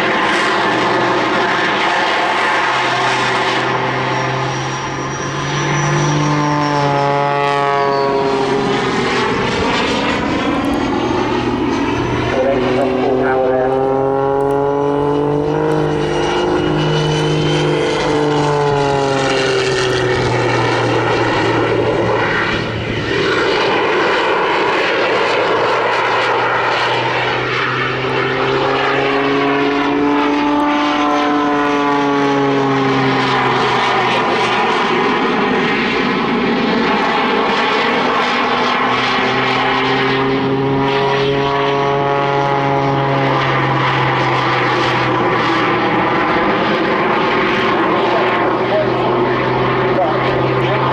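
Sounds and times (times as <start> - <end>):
jet biplane swooping past: 0.0 - 50.9.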